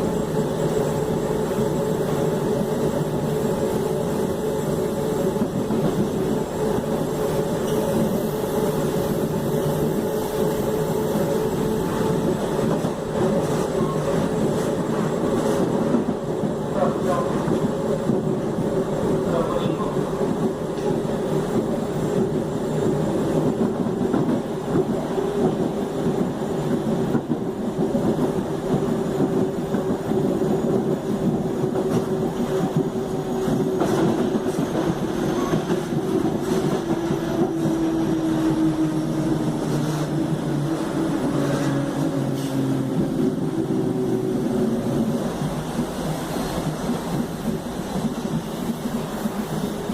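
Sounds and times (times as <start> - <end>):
train rumble: 0.0 - 49.9.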